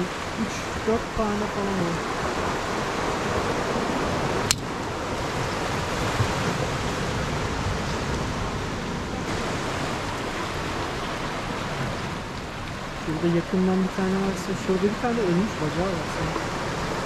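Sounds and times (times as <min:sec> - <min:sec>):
surf washing over rocks: 0:00.0 - 0:17.0.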